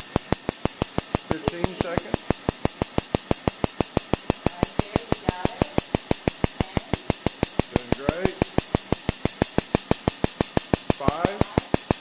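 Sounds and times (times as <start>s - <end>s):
laser firing sharp clicks: 0.0s - 12.0s.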